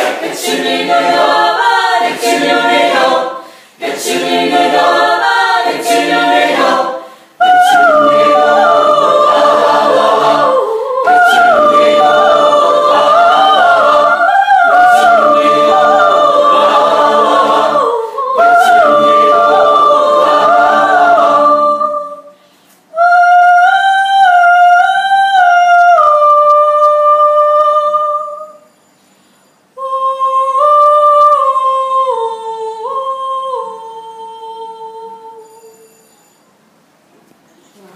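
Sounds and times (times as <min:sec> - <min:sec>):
choir singing a cappella: 0:00.0 - 0:28.8, 0:29.8 - 0:36.4.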